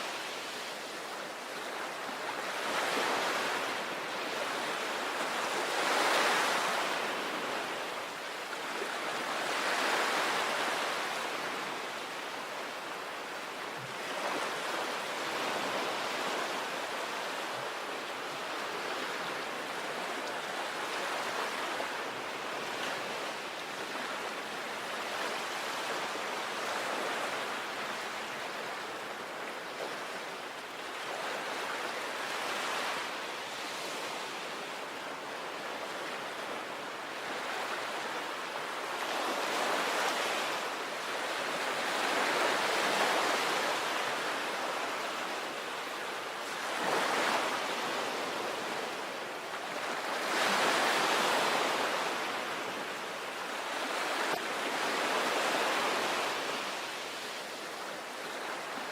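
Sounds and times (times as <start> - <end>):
sea waves breaking on beach: 0.0 - 58.9.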